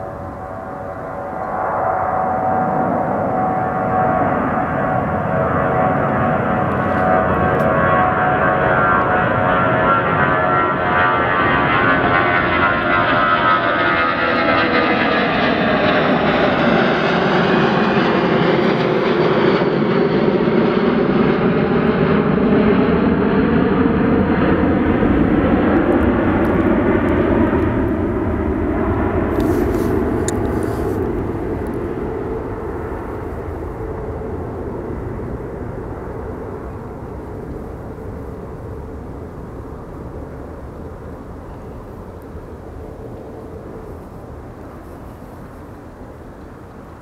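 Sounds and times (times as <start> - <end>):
jet airliner roaring overhead: 0.0 - 47.0.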